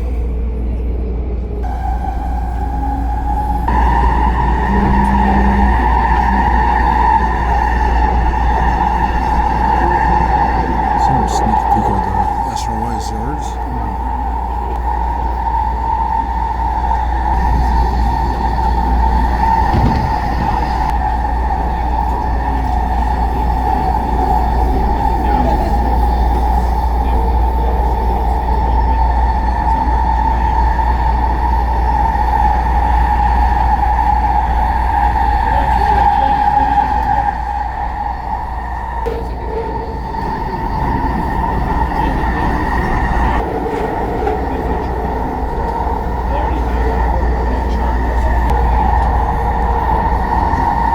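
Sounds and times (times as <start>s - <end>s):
constant high whine: 0.0s - 50.9s
train rumbling on track: 0.0s - 50.9s.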